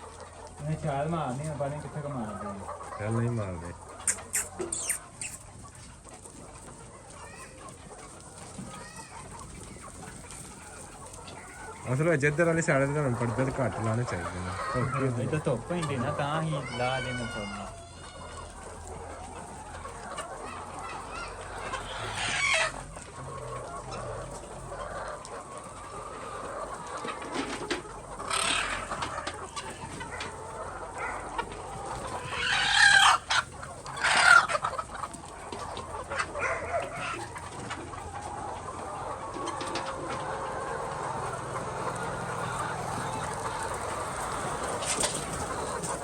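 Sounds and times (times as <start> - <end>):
chickens clucking: 0.0 - 46.0
loud chicken calls: 0.0 - 46.0.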